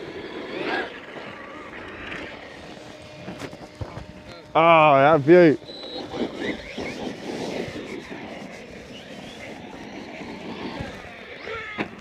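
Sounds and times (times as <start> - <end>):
electric motor whine: 0.0 - 12.0
tyres on dirt: 0.0 - 12.0.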